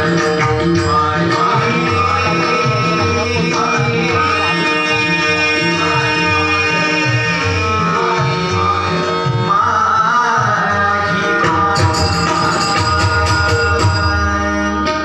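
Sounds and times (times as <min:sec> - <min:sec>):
person singing melody: 0:00.0 - 0:15.0.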